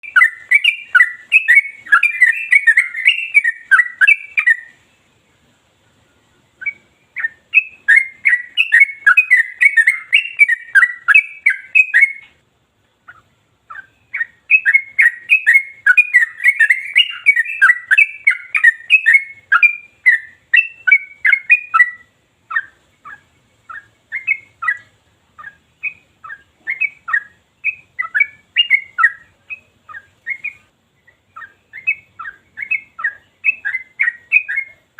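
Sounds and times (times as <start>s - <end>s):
bird singing rapid sharp notes: 0.0s - 34.9s.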